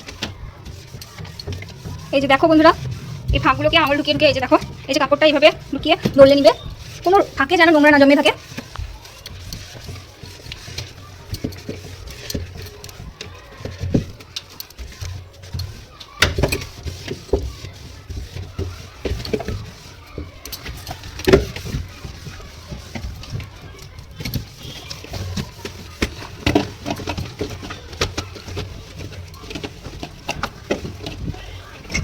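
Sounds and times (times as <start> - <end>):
wet cloth wiping plastic: 0.0 - 32.0.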